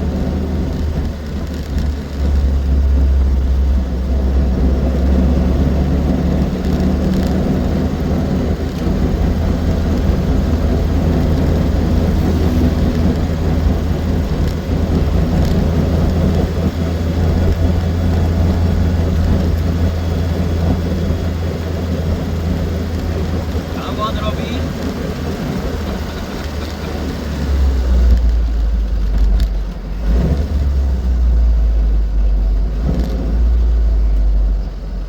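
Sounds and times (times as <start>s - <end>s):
car engine running: 0.0s - 35.0s
road noise: 0.0s - 35.0s.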